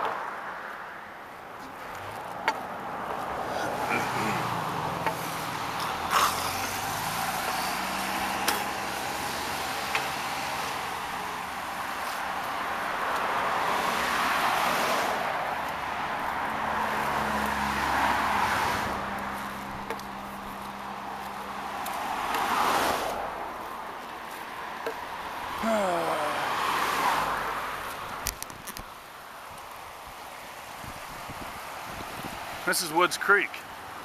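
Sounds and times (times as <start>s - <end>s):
cars driving past: 0.0s - 34.0s.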